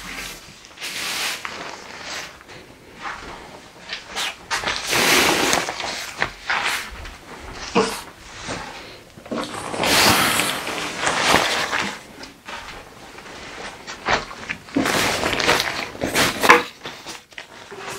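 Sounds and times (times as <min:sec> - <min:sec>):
fabric rustling: 0:00.0 - 0:17.9.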